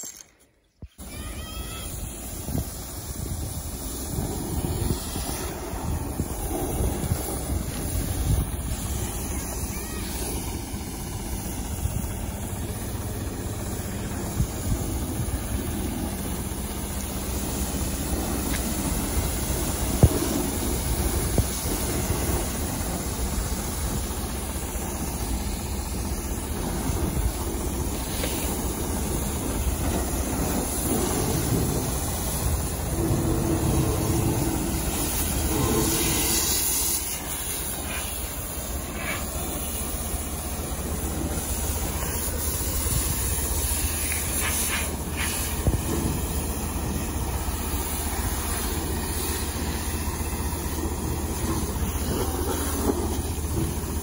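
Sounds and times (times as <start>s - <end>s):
pump engine drone: 0.0s - 54.0s
water spray hissing: 0.9s - 54.0s.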